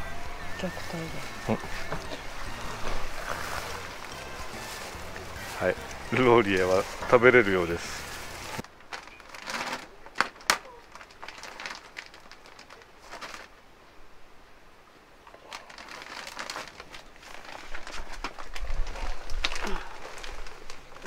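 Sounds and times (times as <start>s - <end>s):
plastic bag crinkling: 0.6s - 13.6s, 15.3s - 21.0s.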